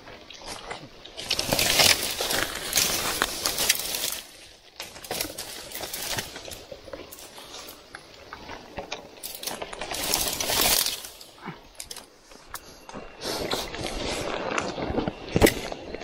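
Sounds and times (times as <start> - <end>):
rustling through dense brush: 0.0 - 16.0.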